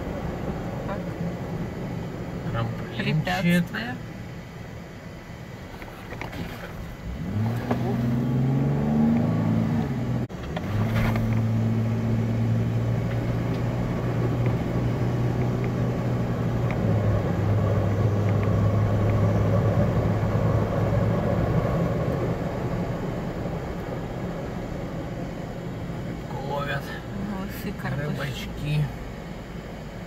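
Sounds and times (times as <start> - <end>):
tyre and road noise: 0.0 - 30.0
vehicle engine from inside cabin: 0.0 - 30.0.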